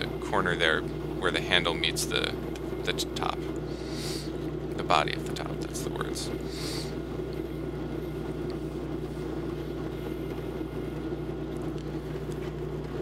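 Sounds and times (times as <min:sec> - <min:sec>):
wood lathe humming: 0:00.0 - 0:13.0.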